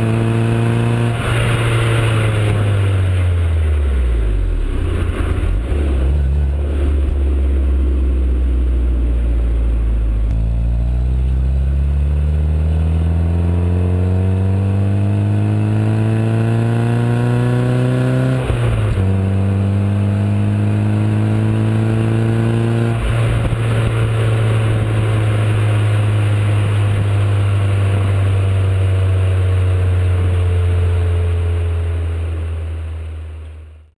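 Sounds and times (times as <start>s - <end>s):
car engine revving through gears: 0.0s - 9.0s, 10.2s - 31.8s.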